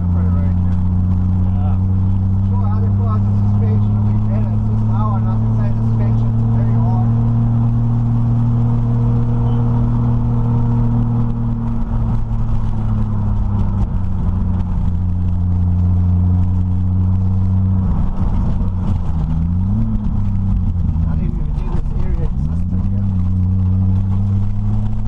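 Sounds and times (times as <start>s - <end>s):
car engine heard from cabin: 0.0s - 25.0s.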